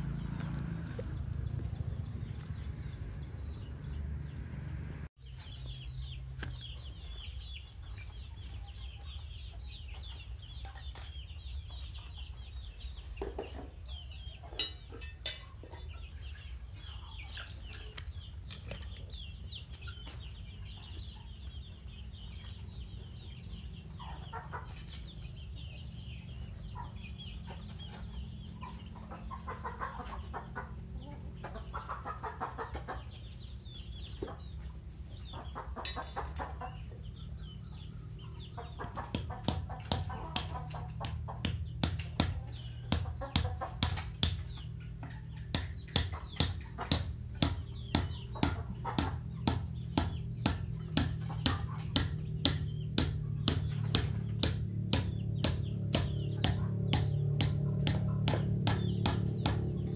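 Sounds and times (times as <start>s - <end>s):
chickens clucking: 0.0s - 59.9s
chicks peeping: 0.0s - 59.9s.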